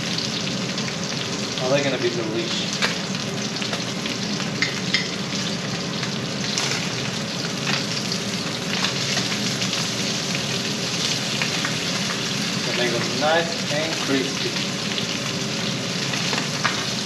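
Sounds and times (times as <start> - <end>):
fish sizzling in a skillet: 0.0 - 17.0.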